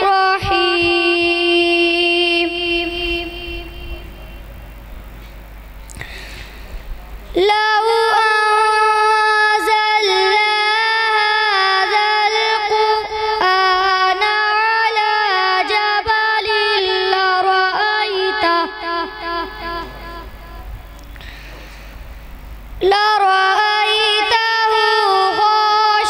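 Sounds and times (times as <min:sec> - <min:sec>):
boy reciting in melodic chant: 0:00.0 - 0:04.5, 0:07.2 - 0:21.8, 0:22.8 - 0:26.0.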